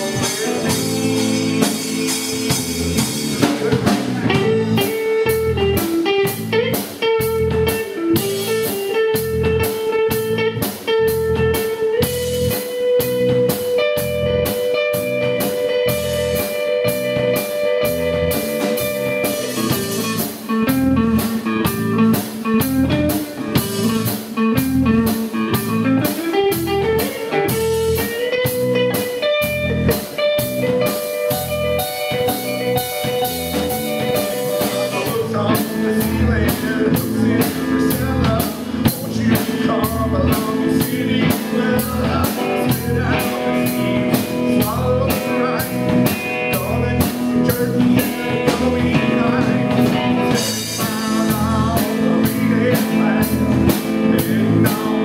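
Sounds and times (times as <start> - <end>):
fast drum beat: 0.0 - 55.0.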